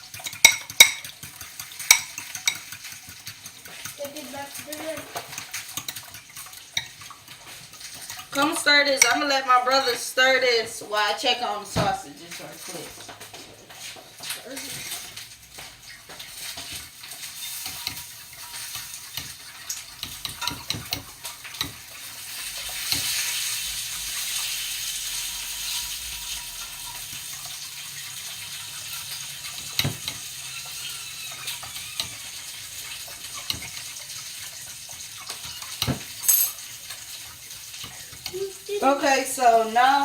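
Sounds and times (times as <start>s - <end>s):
utensil scraping and clicking on pan: 0.0s - 9.9s, 12.7s - 38.4s
sausages sizzling in grease: 0.0s - 40.0s.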